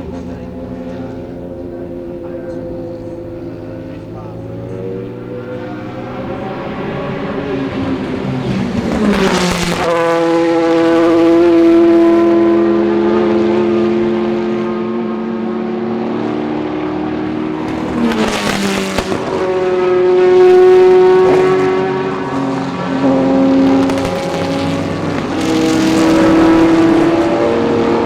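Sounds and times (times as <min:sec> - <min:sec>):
engine crackling bursts: 0:00.0 - 0:14.8, 0:16.0 - 0:28.0
race car engine at high revs: 0:00.0 - 0:28.0.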